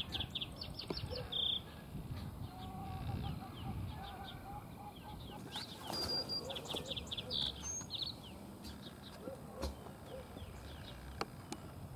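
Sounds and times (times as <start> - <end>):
sparrow singing: 0.0 - 11.6.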